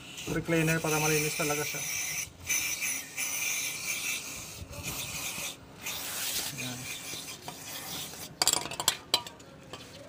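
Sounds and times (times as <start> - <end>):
aerosol spray hissing: 0.0 - 8.2.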